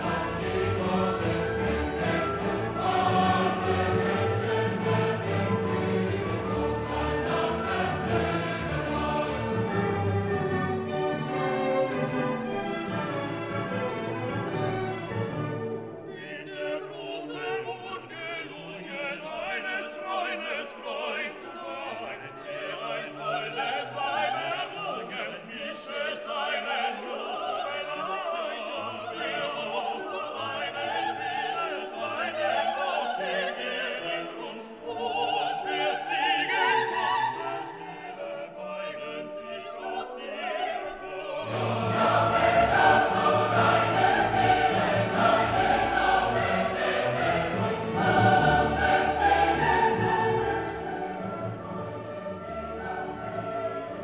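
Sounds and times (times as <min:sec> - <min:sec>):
orchestra with operatic singing: 0:00.0 - 0:54.0.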